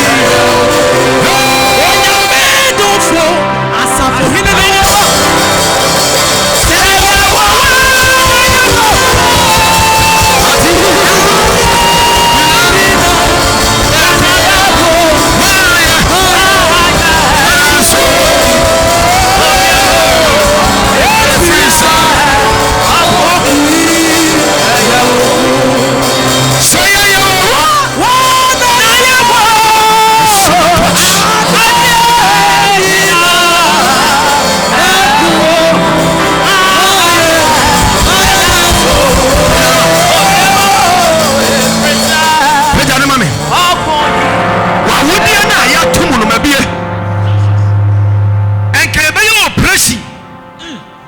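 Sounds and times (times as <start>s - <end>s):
worship music with singing: 0.0s - 51.0s.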